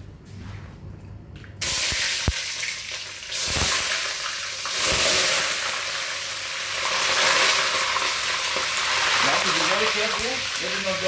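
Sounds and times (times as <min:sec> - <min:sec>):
onions sizzling in hot oil: 0:01.6 - 0:11.0.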